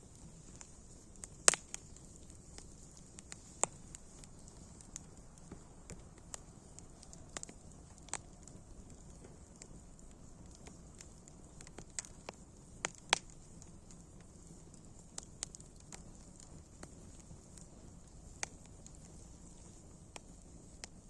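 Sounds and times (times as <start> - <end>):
faint steady hiss: 0.0 - 21.0
wood fire crackling and popping: 0.0 - 21.0.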